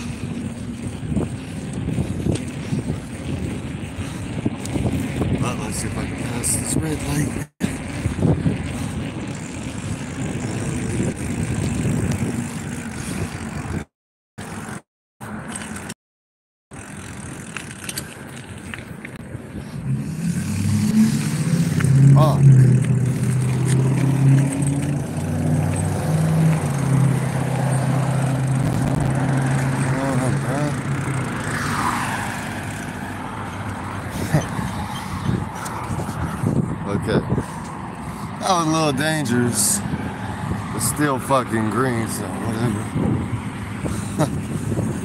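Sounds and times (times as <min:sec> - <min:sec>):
wind buffeting microphone: 0:00.0 - 0:13.9, 0:19.1 - 0:45.0
road traffic rushing: 0:00.0 - 0:16.0, 0:16.7 - 0:45.0.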